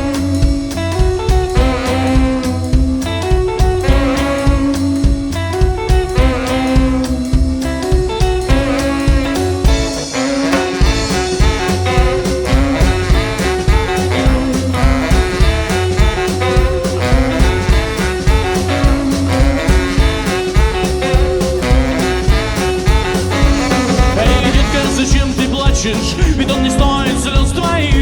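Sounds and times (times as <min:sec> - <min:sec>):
rockabilly band playing instrumental: 0:00.0 - 0:28.0
steady drum beat: 0:00.0 - 0:28.0.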